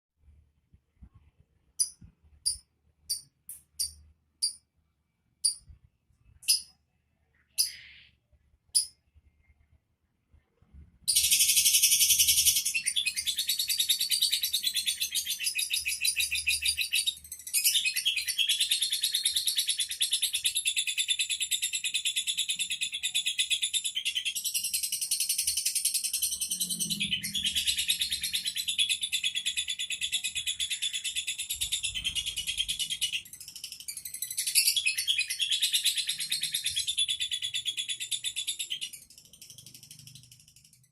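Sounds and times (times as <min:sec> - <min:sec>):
bird chattering song: 0:01.8 - 0:04.7, 0:05.4 - 0:09.6, 0:11.1 - 0:40.9.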